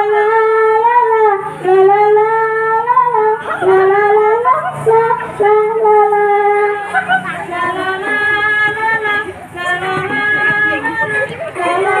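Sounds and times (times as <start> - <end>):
girl singing through a microphone: 0.0 - 12.0.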